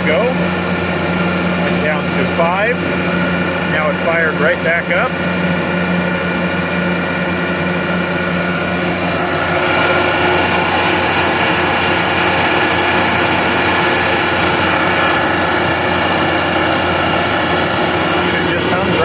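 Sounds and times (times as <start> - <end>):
air compressor hum and whir: 0.0 - 19.0.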